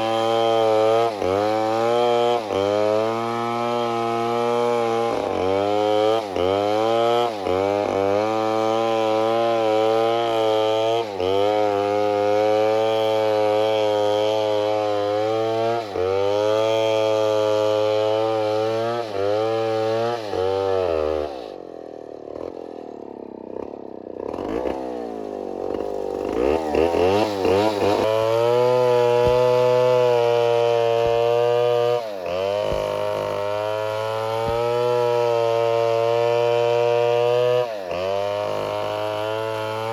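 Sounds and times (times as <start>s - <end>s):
two-stroke chainsaw revving: 0.0s - 39.9s.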